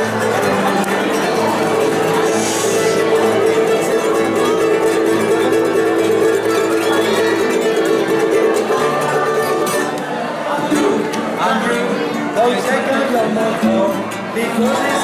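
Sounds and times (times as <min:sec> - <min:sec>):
plucked string instrumental music: 0:00.0 - 0:15.0.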